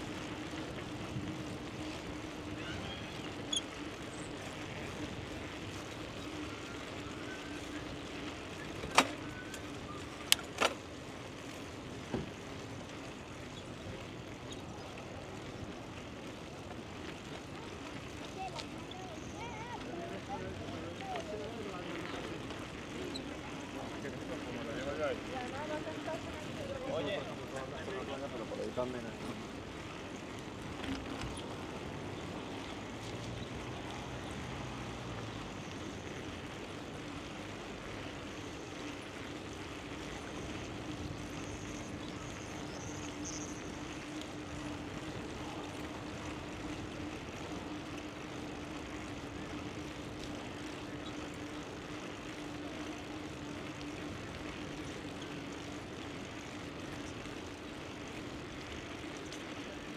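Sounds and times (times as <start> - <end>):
bicycle hum: 0.0 - 59.9.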